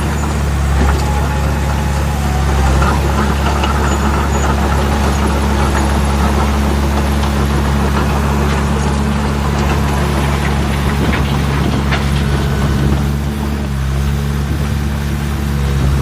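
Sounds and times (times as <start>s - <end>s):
toy bulldozer engine drone: 0.0s - 16.0s.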